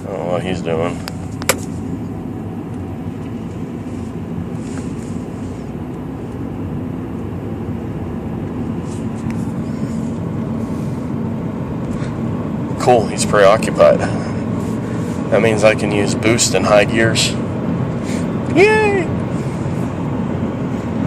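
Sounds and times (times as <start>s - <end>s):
car engine cruising: 0.0s - 21.0s
road noise: 0.0s - 21.0s.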